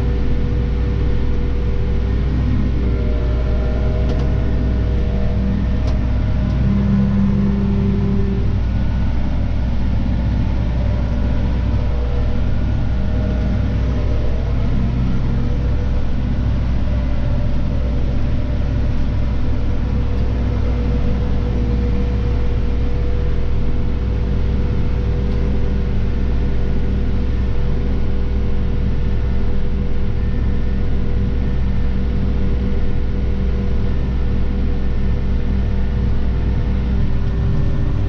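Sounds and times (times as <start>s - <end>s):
engine whine: 0.0s - 38.0s
tractor diesel engine running: 0.0s - 38.0s.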